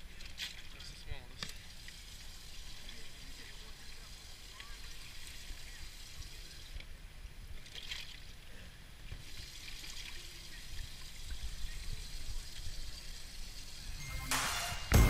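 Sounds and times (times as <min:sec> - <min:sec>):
water splashing and trickling: 0:00.0 - 0:06.8, 0:07.4 - 0:14.2.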